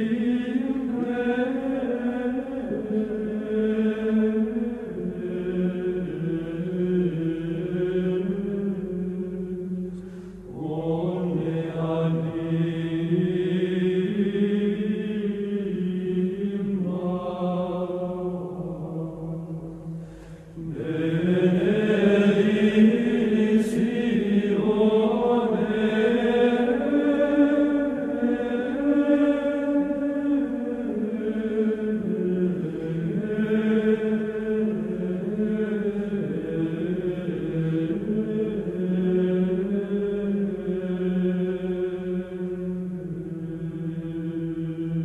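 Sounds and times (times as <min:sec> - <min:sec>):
voices singing sacred chant: 0:00.0 - 0:45.0.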